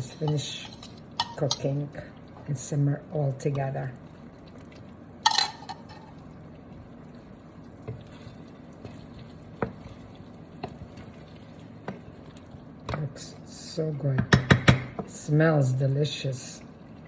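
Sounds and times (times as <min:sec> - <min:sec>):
sauce bubbling in a pan: 0:00.9 - 0:17.0.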